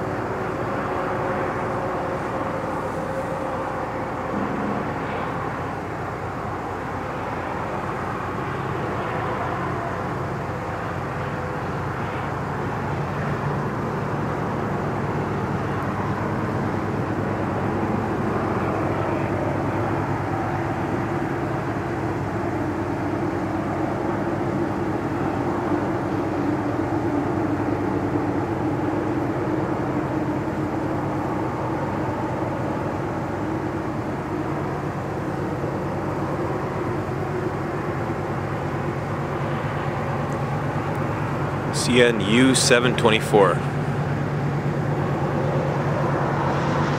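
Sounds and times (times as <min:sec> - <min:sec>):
distant rumble of vehicles: 0:00.0 - 0:46.9.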